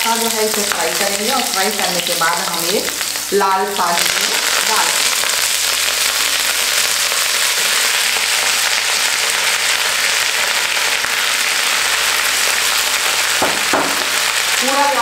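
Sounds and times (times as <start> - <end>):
leaves sizzling in hot oil: 0.0 - 15.0.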